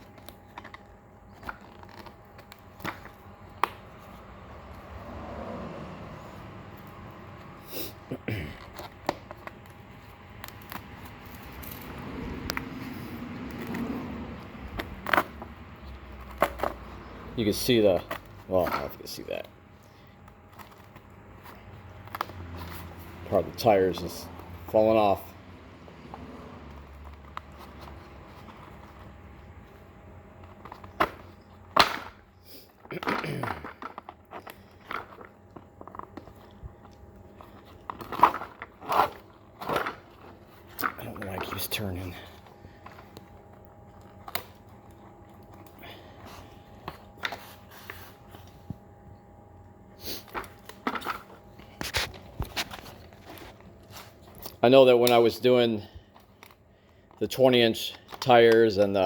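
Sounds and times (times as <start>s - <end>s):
tire crunching scrapes: 0.0s - 48.9s, 49.9s - 56.0s.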